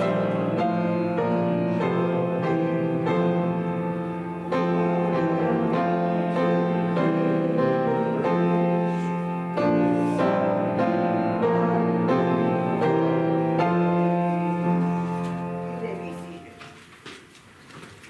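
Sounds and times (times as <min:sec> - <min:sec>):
slow keyboard chords: 0:00.0 - 0:16.8.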